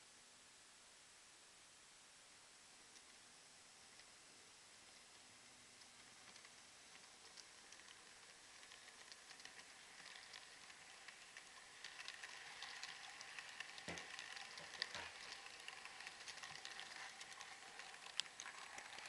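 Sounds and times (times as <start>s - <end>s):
model train wheels rolling on track: 2.7s - 19.0s.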